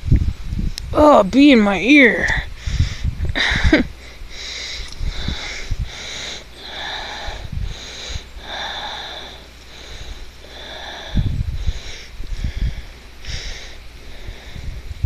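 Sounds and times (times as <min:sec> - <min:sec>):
person breathing noisily: 0:02.5 - 0:15.0.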